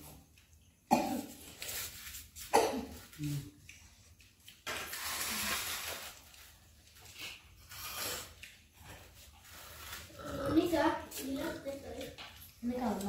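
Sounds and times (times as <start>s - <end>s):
people eating rice by hand: 0.0s - 13.0s.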